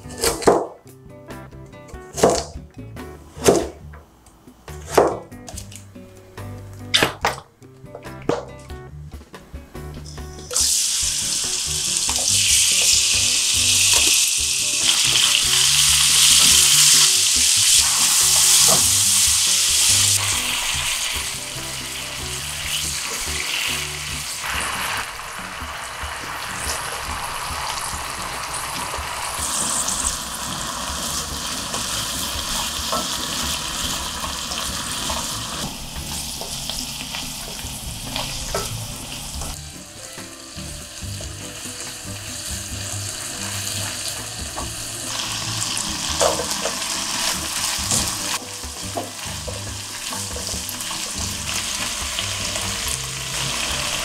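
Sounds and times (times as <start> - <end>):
meat sizzling in hot oil: 10.1 - 54.0.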